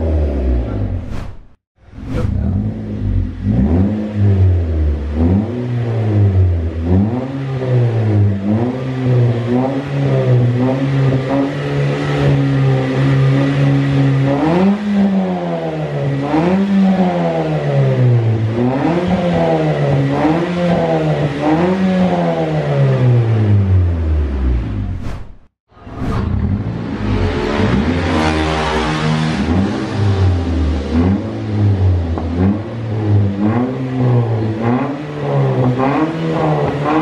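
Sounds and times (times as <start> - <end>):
car engine revving: 2.0 - 25.2, 25.9 - 37.0.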